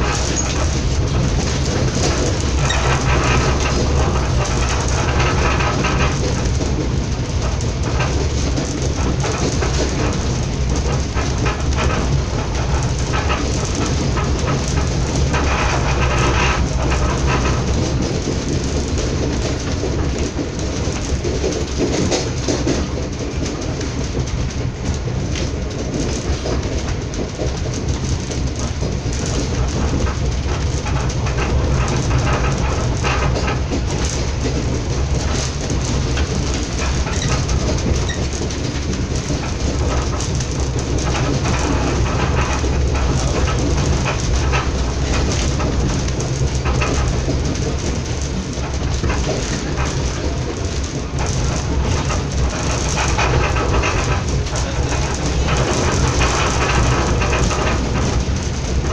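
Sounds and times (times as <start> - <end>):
train rumble and rattle: 0.0 - 58.9
wheels clicking over rails: 0.0 - 58.9.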